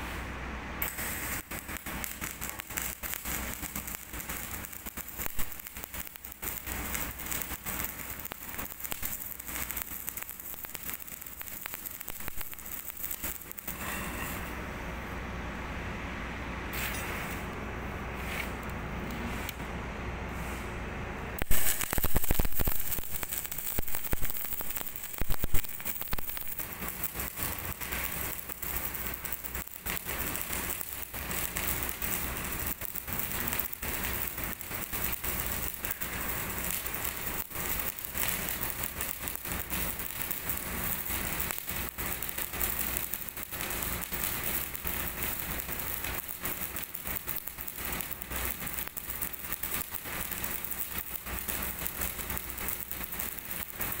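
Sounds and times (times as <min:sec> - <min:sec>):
welding arc crackling and sizzling: 0:00.0 - 0:14.8, 0:21.4 - 0:54.0.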